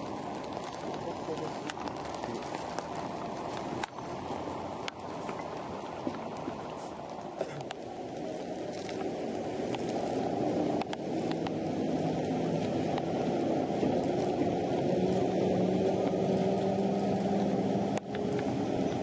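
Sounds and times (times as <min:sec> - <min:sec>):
heavy rain and wet tyres: 0:00.0 - 0:19.0.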